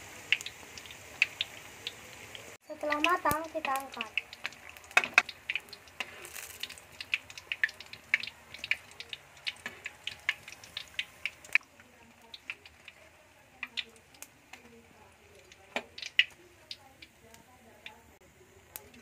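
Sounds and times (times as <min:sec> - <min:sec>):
faint oil sizzle: 0:00.0 - 0:19.0
hot oil popping: 0:00.0 - 0:19.0.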